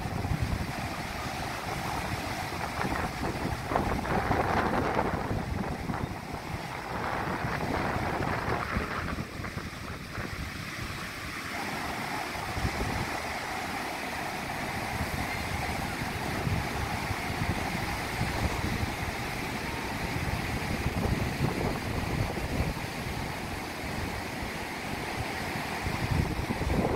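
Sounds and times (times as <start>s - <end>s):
wind buffeting microphone: 0.0s - 13.4s, 14.5s - 26.9s
ocean surf breaking: 0.0s - 26.9s.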